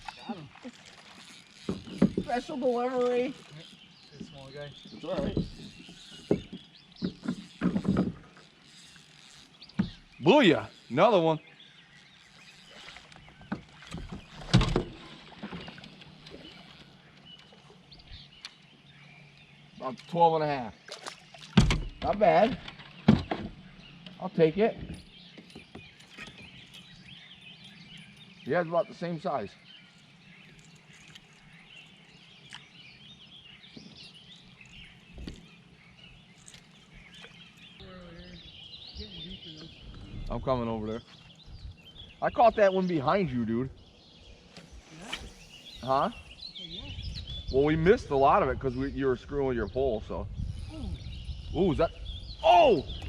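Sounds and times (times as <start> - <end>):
faint birds chirping: 0.0 - 53.0.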